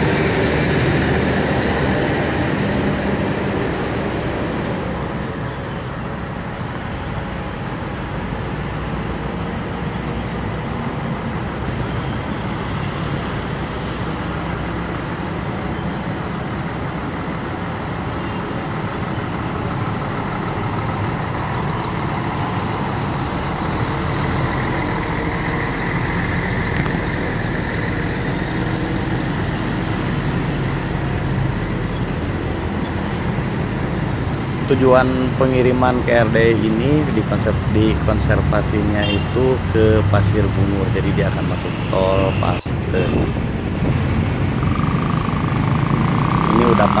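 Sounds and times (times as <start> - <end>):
diesel trucks rumbling past: 0.0 - 47.0
road traffic: 0.0 - 47.0.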